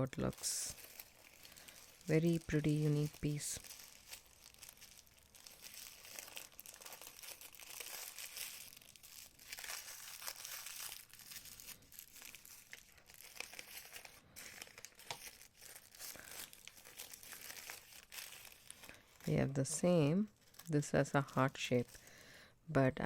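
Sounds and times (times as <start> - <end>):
packaging crinkling and rustling: 0.0 - 22.2.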